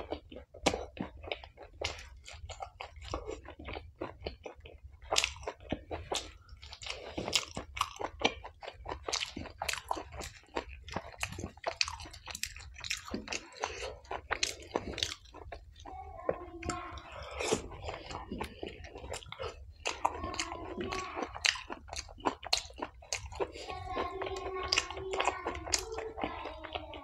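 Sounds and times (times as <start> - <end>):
person chewing with wet smacking: 0.0 - 27.0.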